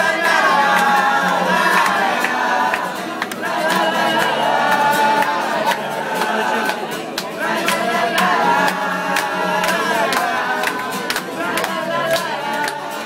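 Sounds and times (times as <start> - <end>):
many voices singing together: 0.0 - 13.0
strummed acoustic guitar: 0.0 - 13.0.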